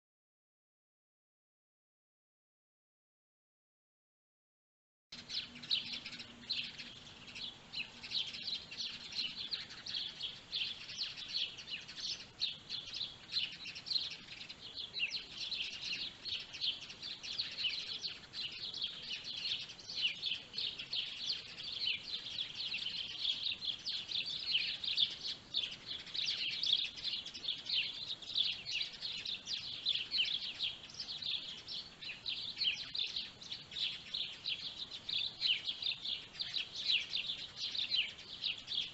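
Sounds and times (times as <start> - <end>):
small birds chirping: 5.1 - 38.9.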